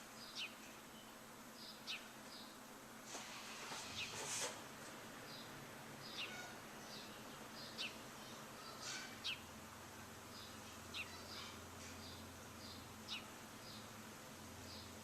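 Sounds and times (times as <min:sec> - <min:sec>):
birds chirping: 0:00.0 - 0:02.6, 0:05.2 - 0:15.0
faint background hiss: 0:00.0 - 0:15.0.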